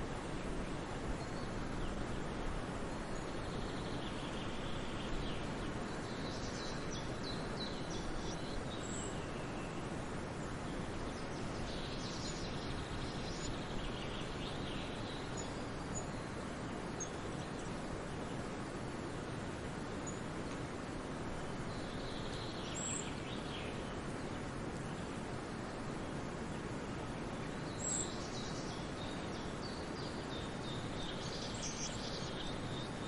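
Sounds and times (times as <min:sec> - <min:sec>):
small birds chirping: 0:00.2 - 0:20.6, 0:21.4 - 0:33.0.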